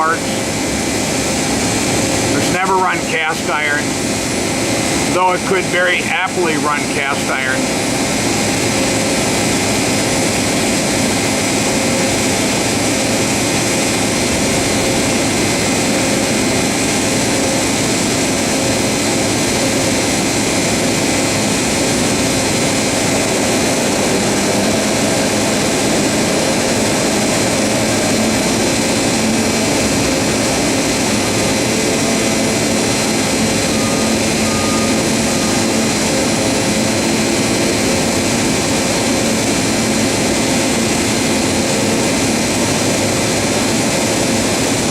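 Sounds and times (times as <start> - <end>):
machining center mechanical whine: 0.0 - 44.9.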